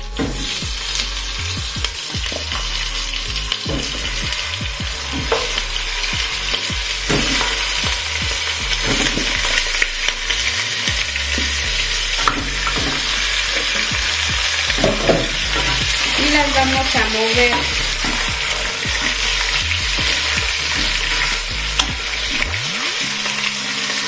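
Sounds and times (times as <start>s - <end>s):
meat sizzling in hot lard: 0.0s - 24.0s.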